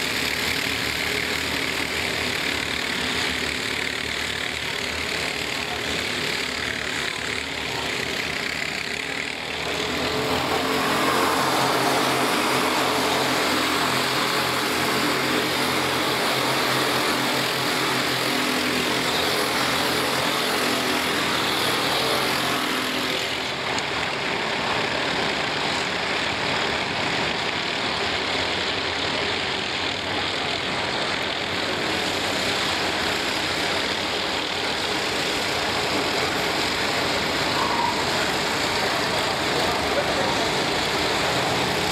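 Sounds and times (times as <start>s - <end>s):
racing kart engines: 0.0s - 41.9s.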